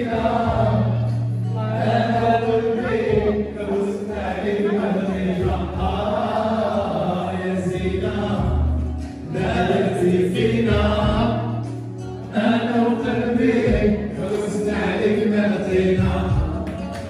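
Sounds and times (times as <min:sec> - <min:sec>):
choir singing music: 0:00.0 - 0:17.0.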